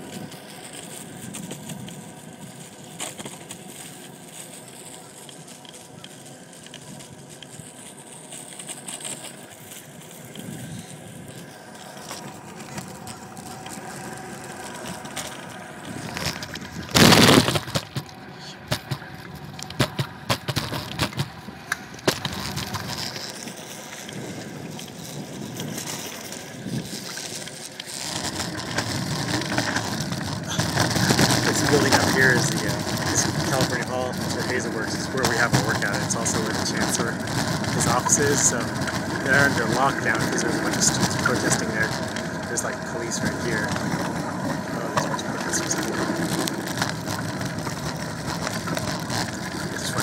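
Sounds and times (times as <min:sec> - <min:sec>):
scooter clicking over joints: 0:00.0 - 0:50.0
scooter wheels rolling rattle: 0:00.0 - 0:50.0.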